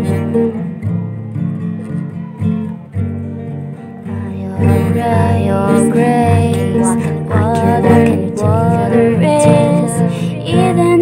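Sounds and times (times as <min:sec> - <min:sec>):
slow song: 0:00.0 - 0:11.0.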